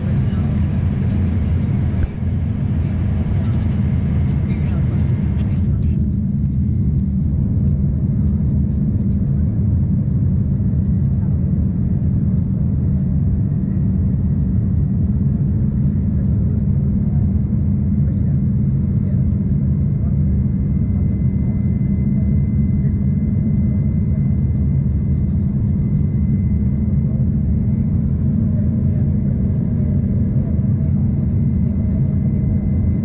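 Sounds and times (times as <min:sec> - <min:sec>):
faint steady whine: 0:00.0 - 0:33.0
low rumble of jet engines and airflow: 0:00.0 - 0:33.0.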